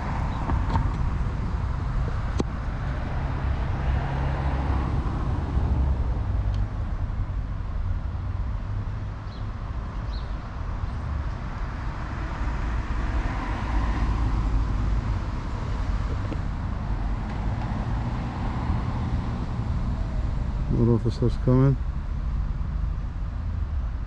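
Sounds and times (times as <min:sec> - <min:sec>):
cars driving by: 0:00.0 - 0:24.0
low traffic rumble: 0:00.0 - 0:24.0.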